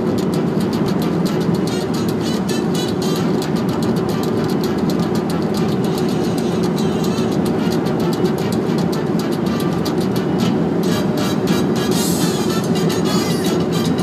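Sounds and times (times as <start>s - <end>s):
car road noise: 0.0s - 14.0s
music with fast beat: 0.0s - 14.0s.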